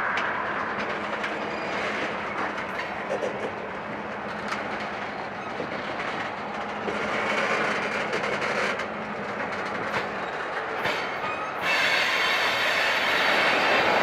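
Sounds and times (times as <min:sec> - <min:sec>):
train wheels rolling on rail: 0:00.0 - 0:14.0.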